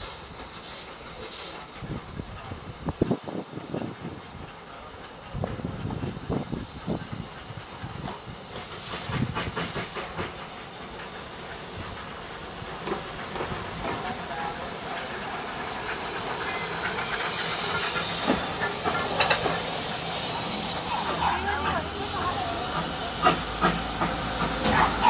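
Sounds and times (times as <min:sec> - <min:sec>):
locomotive chuffing: 0:00.0 - 0:25.0
steam locomotive hissing: 0:00.0 - 0:25.0.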